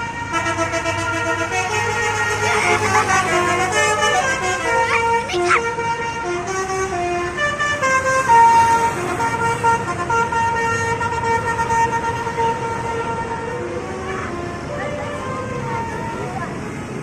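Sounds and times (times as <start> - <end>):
multi-tone bus air horn melody: 0.0 - 17.0.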